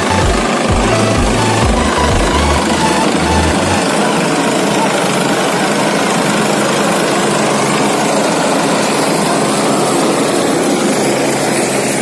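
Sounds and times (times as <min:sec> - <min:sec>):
helicopter rotor and engines: 0:00.0 - 0:12.0
rushing rotor wash: 0:00.0 - 0:12.0.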